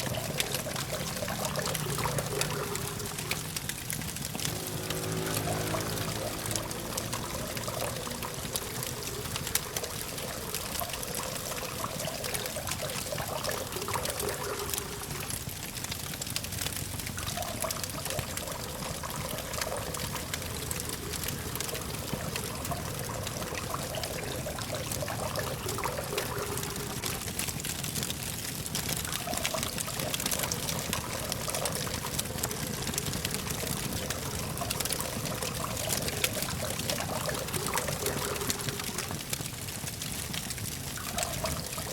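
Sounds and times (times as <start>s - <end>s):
distant traffic hum: 0.0s - 27.5s, 28.9s - 40.0s
campfire crackling: 0.0s - 41.9s.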